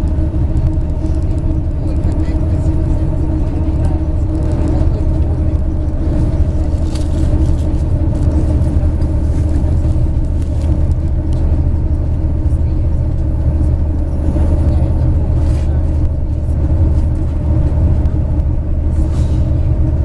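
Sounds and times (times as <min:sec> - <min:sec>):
bus engine drone: 0:00.0 - 0:20.0
road rumble: 0:00.0 - 0:20.0.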